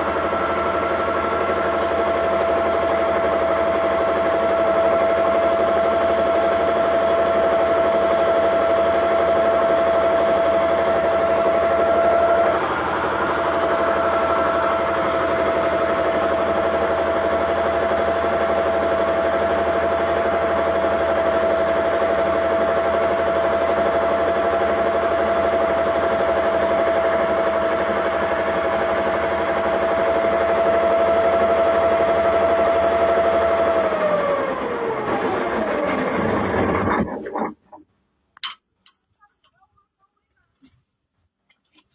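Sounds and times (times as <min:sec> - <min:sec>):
bulldozer diesel engine running: 0:00.0 - 0:37.8
constant high whine: 0:00.0 - 0:41.9.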